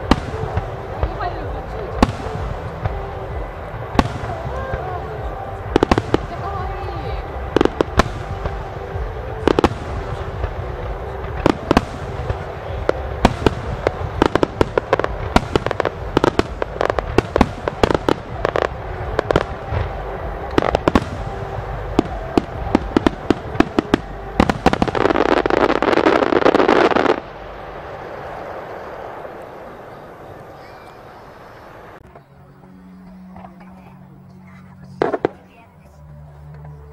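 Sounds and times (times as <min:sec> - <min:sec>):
firework crackling: 0:00.0 - 0:32.3.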